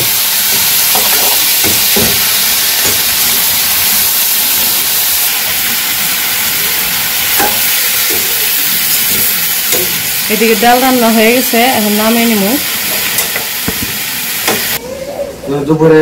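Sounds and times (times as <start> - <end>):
vegetables sizzling in hot oil: 0.0 - 14.8.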